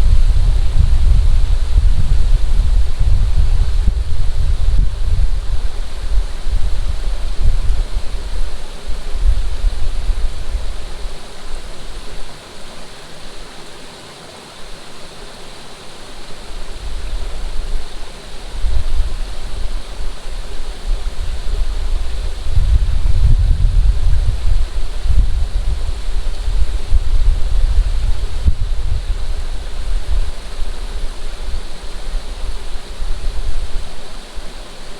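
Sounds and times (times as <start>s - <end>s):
wind buffeting microphone: 0.0s - 12.3s, 16.5s - 34.9s
running water rushing: 0.0s - 34.9s.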